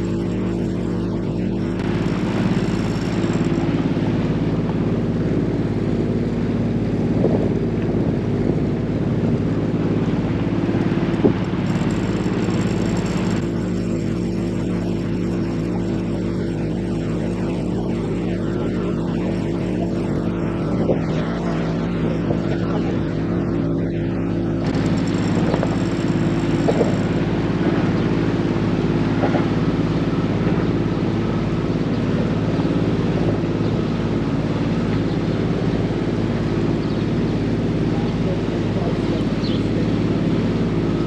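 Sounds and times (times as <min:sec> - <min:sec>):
boat engine droning: 0:00.0 - 0:41.0
wind: 0:00.0 - 0:41.0.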